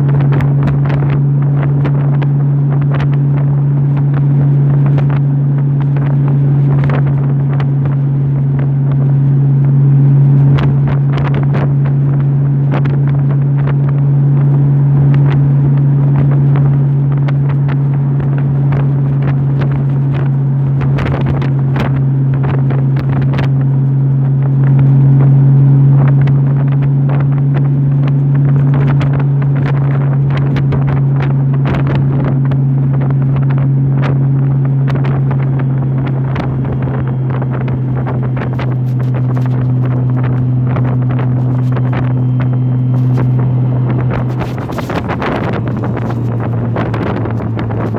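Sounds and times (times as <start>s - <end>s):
motorcycle engine cruising: 0.0s - 47.9s
wind buffeting microphone: 0.0s - 47.9s.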